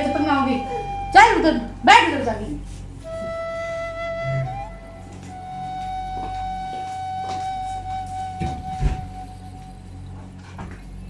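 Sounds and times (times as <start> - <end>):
long held instrument note: 0.0 - 2.0, 2.8 - 10.0.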